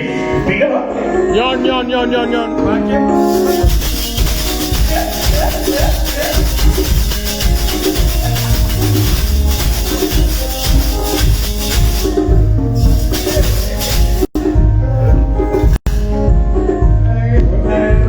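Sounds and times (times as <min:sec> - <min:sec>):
live band playing instrumental: 0:02.0 - 0:16.8.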